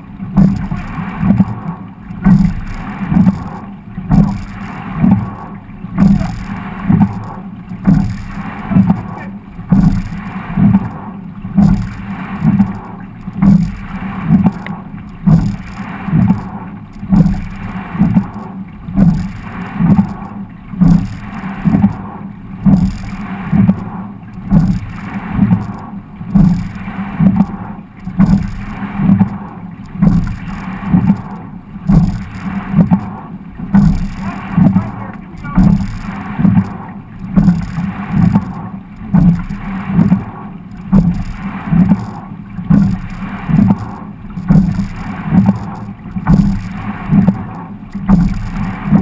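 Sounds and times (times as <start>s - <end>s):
rowing stroke thumps: 0.0s - 49.0s
water rushing along hull: 0.0s - 49.0s.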